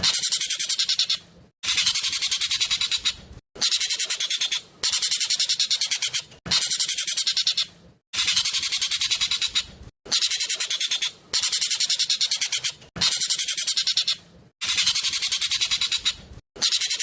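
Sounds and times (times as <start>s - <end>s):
bird singing shrill rapid notes: 0.0s - 17.0s.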